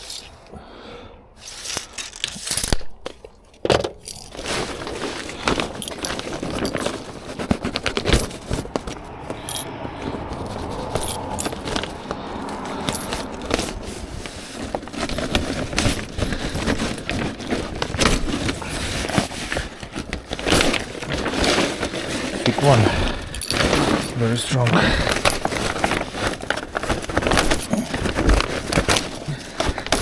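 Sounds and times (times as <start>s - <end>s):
plastic sheeting crackling: 4.2s - 30.0s.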